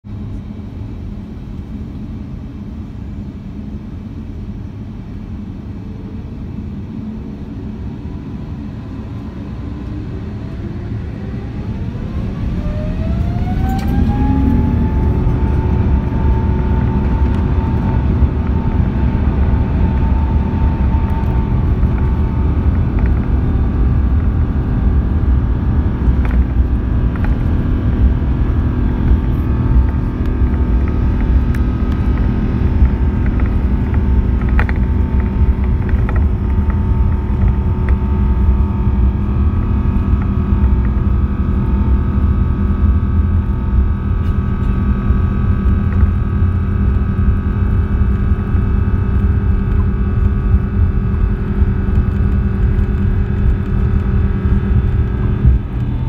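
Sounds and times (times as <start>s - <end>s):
jet engine whine: 0.0s - 56.0s
heavy engine rumble: 0.1s - 56.0s.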